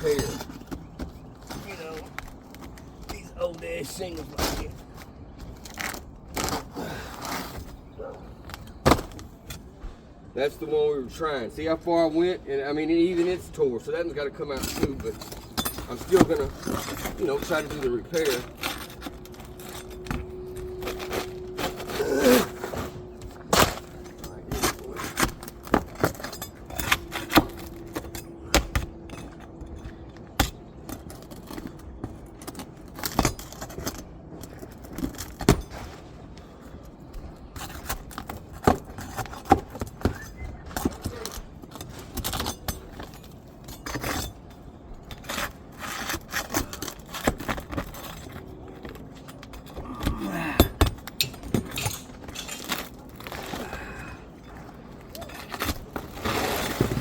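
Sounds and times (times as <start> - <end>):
shingles cracking and tearing: 0.0 - 9.8, 14.0 - 57.0.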